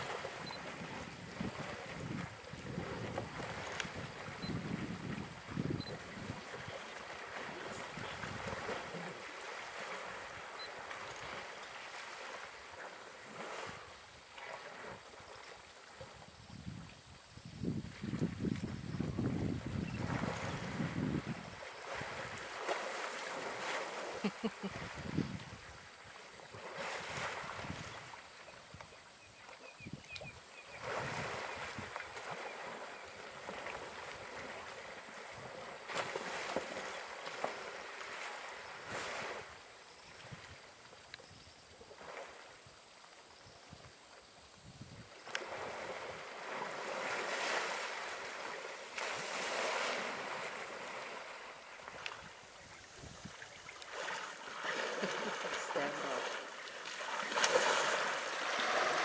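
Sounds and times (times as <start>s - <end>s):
water splashing and sloshing: 0.0s - 16.3s, 17.9s - 41.2s, 45.1s - 59.0s.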